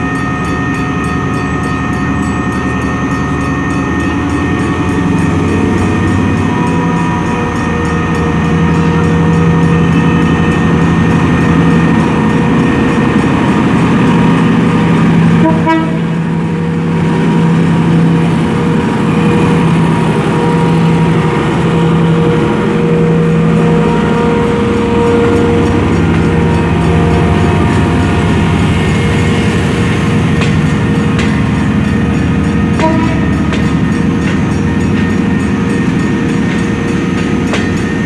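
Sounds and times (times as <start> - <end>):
diesel locomotive engine running: 0.0 - 38.0.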